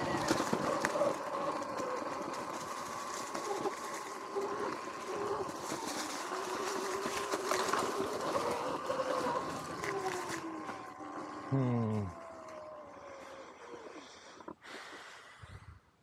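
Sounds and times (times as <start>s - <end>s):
electric motor whine: 0.0s - 14.5s
wind and tyre noise: 0.0s - 15.9s.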